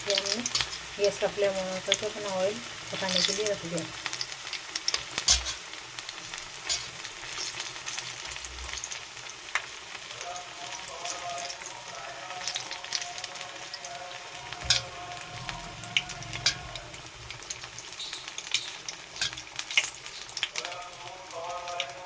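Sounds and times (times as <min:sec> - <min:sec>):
oil sizzling in a pan: 0:00.0 - 0:22.0.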